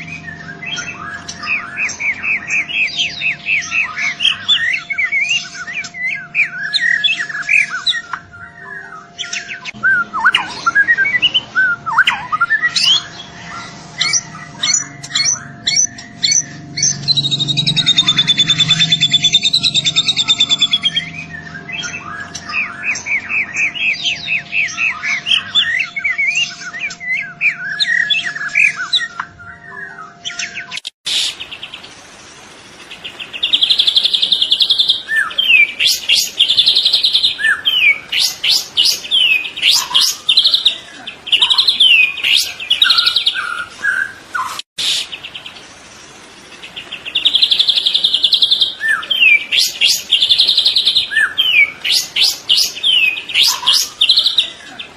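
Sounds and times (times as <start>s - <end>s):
bird singing chirps and whistles: 0.0s - 31.7s, 33.1s - 45.3s, 46.8s - 54.9s
buzzy bird trills: 0.0s - 31.9s, 32.8s - 45.5s, 46.5s - 54.9s.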